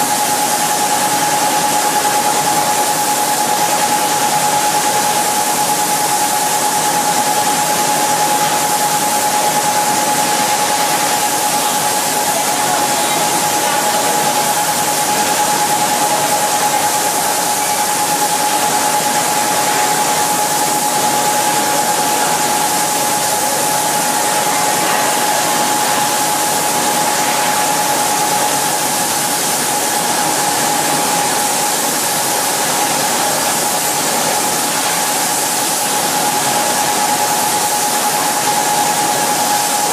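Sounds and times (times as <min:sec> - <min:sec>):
spray booth air hiss with whine: 0:00.0 - 0:39.9.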